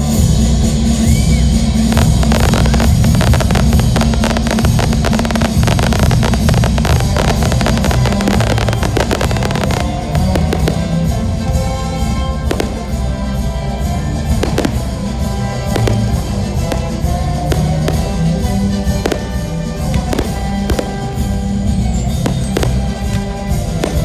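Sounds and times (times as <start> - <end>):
drum-driven rock music: 0.0 - 24.0
fireworks cracking and popping: 1.1 - 24.0.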